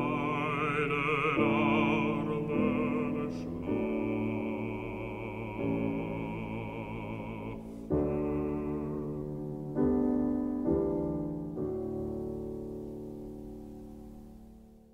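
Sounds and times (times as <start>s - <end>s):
slow classical piano music: 0.0s - 14.9s.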